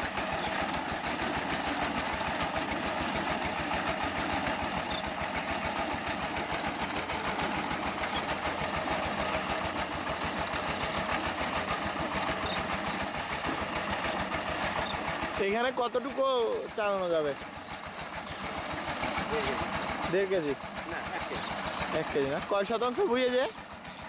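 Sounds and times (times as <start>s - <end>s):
diesel tiller engine running: 0.0s - 24.0s.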